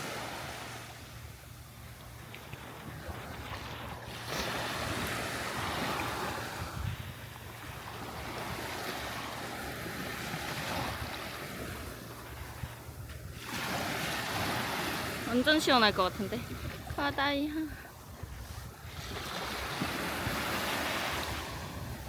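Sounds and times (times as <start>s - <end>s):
sea waves washing up beach: 0.0s - 22.0s
wind rumbling on microphone: 1.0s - 22.0s.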